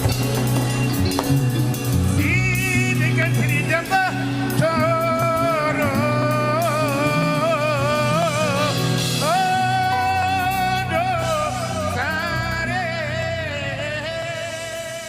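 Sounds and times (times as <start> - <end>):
instrumental accompaniment: 0.0 - 15.0
person singing melismatic line: 2.1 - 15.0.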